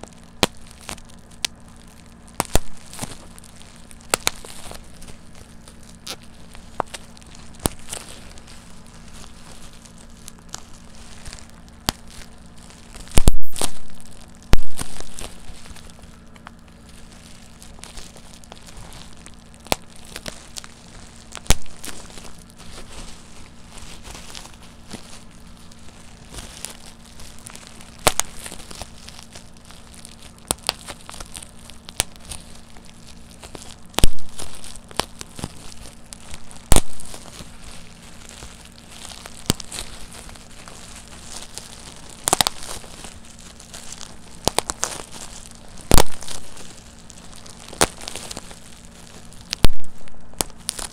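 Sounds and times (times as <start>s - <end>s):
bubble wrap crinkling: 0.0s - 50.9s
bubble wrap pops: 0.0s - 50.9s.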